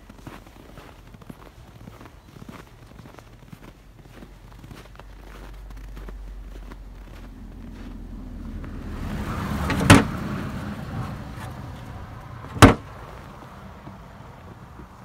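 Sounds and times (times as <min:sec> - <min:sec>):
car driving past on snow: 0:00.0 - 0:15.0.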